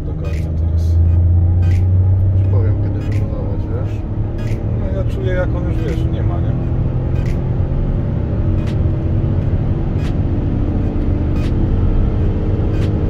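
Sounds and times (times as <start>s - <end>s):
road and tyre noise: 0.0s - 13.0s
van engine running: 0.0s - 13.0s.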